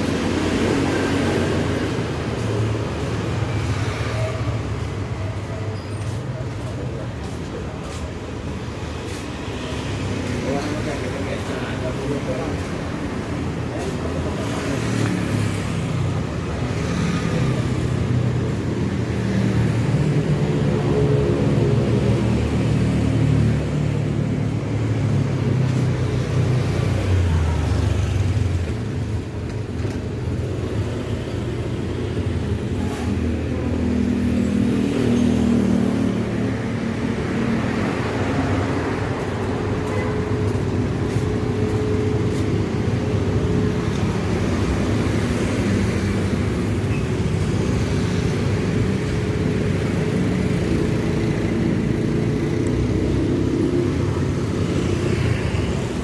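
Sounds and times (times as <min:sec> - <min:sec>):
passing vehicle engines: 0:00.0 - 0:56.0.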